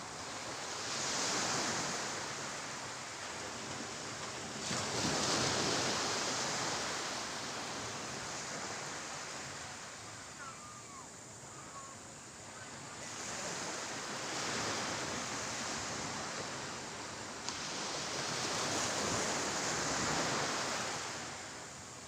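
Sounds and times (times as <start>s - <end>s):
sea waves washing in: 0.0s - 22.0s.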